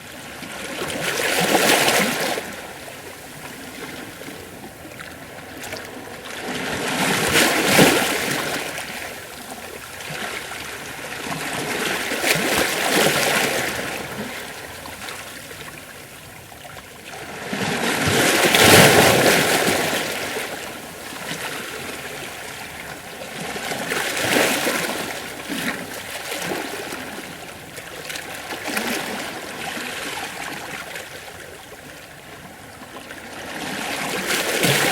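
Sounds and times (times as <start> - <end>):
ocean waves washing over rocks: 0.7 - 16.0, 17.2 - 30.9, 33.3 - 34.9.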